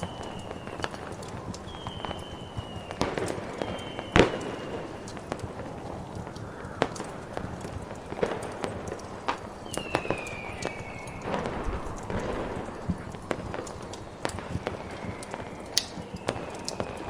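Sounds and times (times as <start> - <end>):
whistling rocket falling in pitch: 0.0 - 8.2, 9.6 - 17.0
crackling fire: 0.0 - 17.0
fireworks popping and cracking: 0.0 - 17.0
rumbling firework burst: 0.0 - 17.0.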